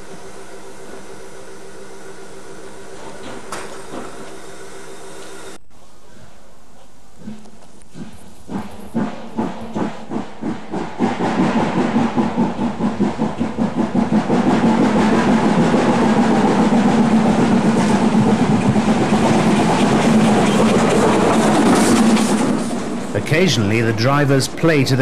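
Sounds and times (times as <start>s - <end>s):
steam locomotive exhaust beats: 0.0s - 25.0s
train running noise: 0.0s - 25.0s.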